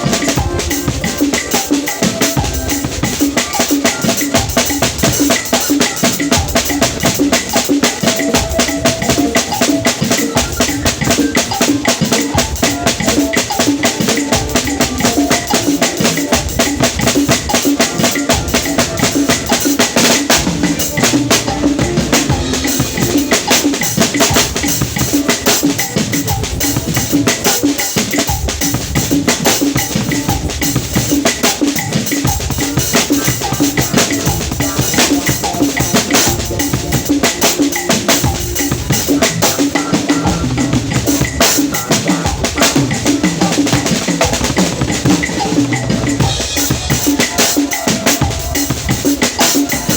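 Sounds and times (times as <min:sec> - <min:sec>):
snare and cymbal strokes: 0:00.0 - 0:49.9
bass drum beats: 0:04.3 - 0:49.9.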